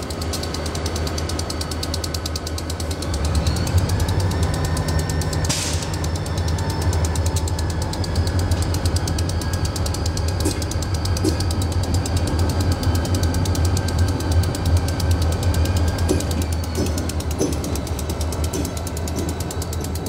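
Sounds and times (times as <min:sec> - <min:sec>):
diesel locomotive rumble: 0:00.0 - 0:20.0
rapid even clicking: 0:00.0 - 0:20.0.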